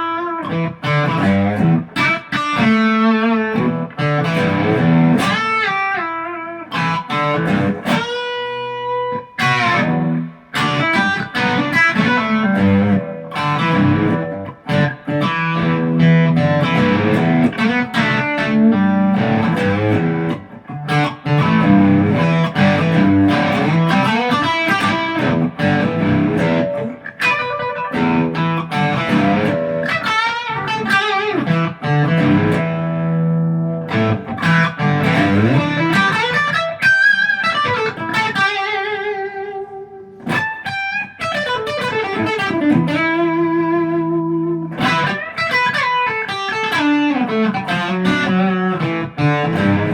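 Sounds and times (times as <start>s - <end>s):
electric guitar playing: 0.0s - 49.9s.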